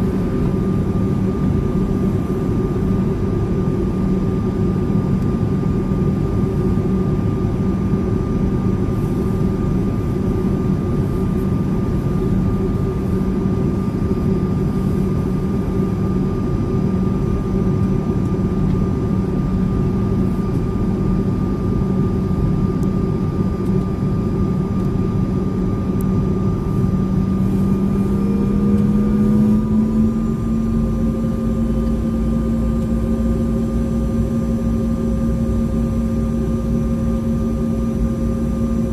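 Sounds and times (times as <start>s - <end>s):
airliner cabin engine roar: 0.0s - 38.9s.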